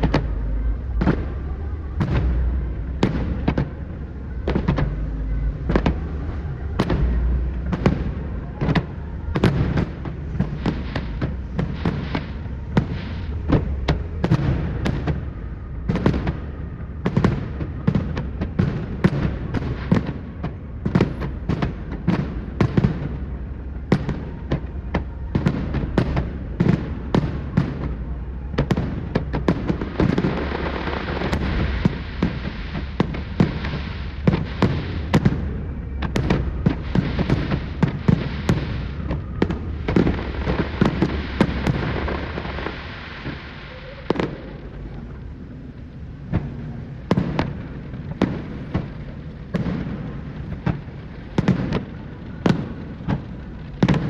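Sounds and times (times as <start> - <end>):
fireworks bangs and pops: 0.0 - 54.0
fireworks hissing crackle: 0.0 - 54.0.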